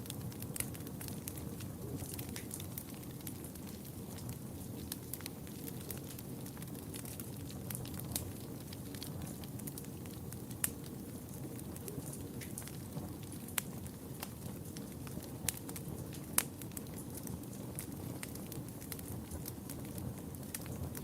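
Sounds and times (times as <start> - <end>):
low rumble of flames: 0.0 - 21.0
wood fire popping and crackling: 0.0 - 21.0.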